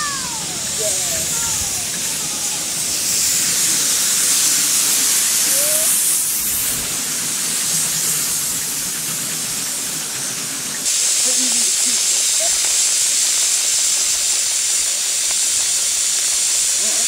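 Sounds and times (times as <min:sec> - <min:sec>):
steam hissing: 0:00.0 - 0:17.0.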